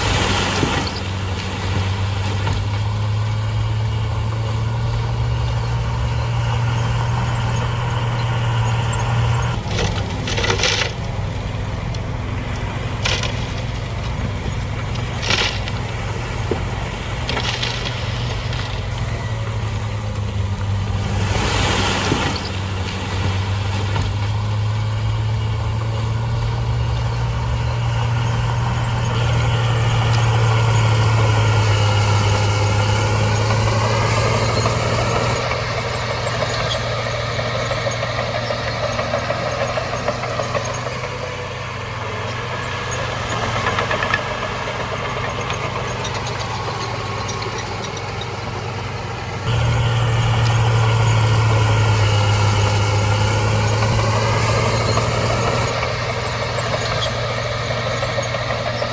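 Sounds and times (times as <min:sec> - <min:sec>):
diesel engine running: 0:00.0 - 0:58.9
light clanks and rattles: 0:00.0 - 0:58.9.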